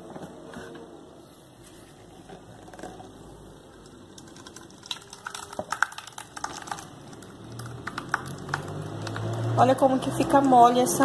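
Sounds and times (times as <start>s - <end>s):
thick batter pouring: 1.7s - 10.6s.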